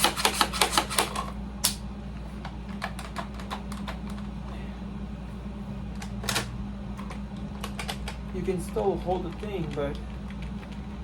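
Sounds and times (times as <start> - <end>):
air conditioner hum: 0.0 - 11.0.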